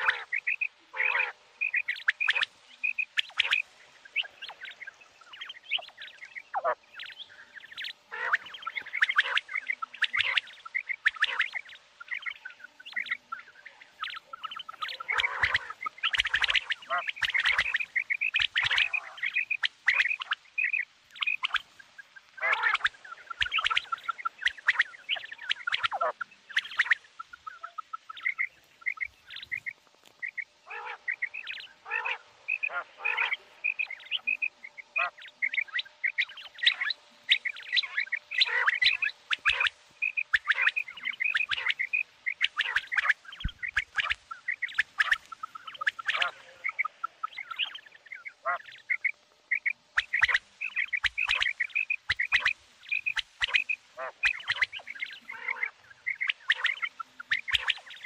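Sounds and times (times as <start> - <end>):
quail chirping calls: 0.0 - 58.0.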